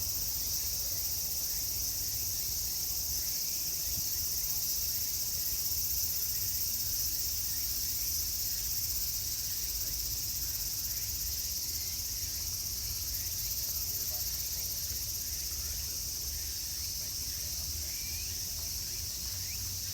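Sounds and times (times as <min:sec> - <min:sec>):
cicadas droning: 0:00.0 - 0:19.9.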